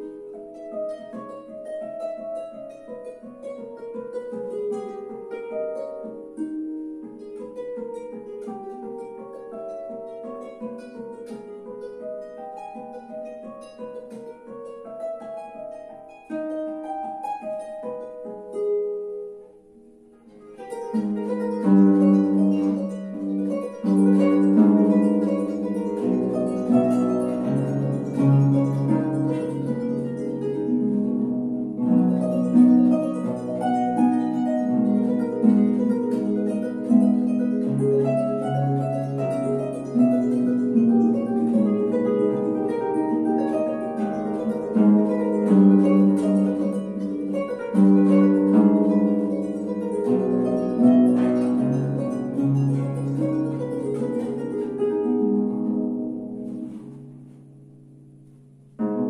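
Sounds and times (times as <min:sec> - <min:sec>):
harp playing: 0:00.0 - 0:59.0.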